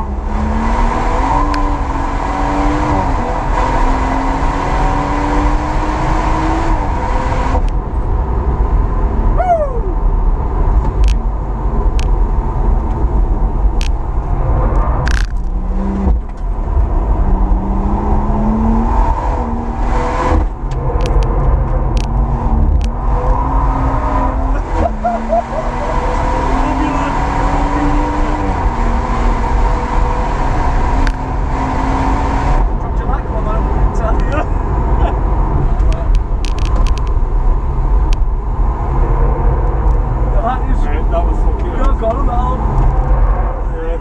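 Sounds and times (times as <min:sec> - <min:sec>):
car engine at full throttle: 0:00.0 - 0:44.0.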